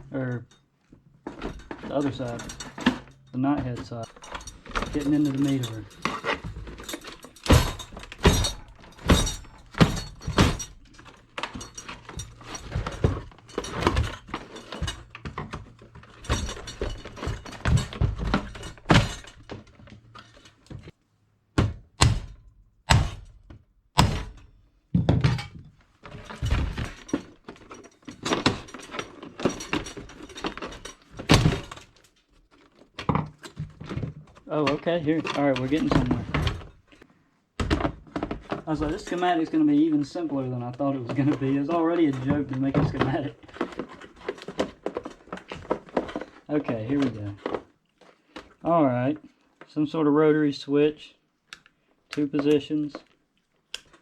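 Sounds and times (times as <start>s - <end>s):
tool knocking and cracking plastic: 1.2s - 20.9s, 21.6s - 37.0s, 37.6s - 39.3s, 41.0s - 48.5s.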